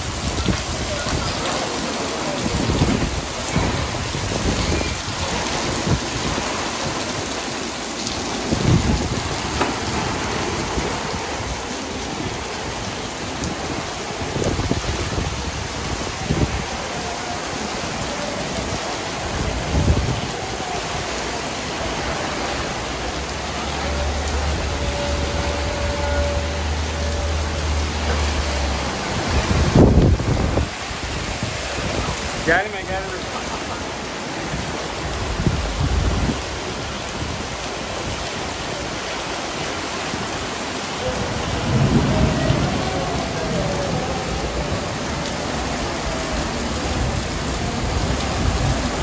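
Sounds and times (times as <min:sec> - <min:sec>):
heavy rain on pavement: 0:00.0 - 0:49.0.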